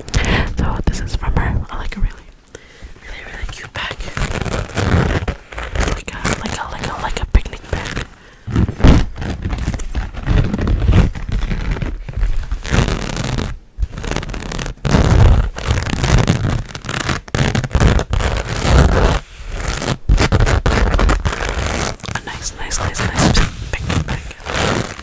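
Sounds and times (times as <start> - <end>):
fabric bag rustling and scraping: 3.9 - 25.0.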